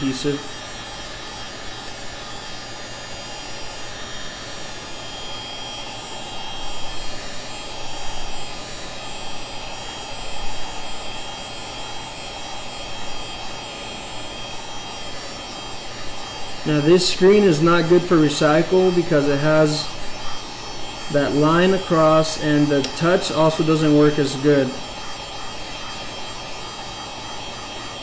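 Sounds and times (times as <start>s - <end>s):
heat gun blowing: 0.0s - 28.0s.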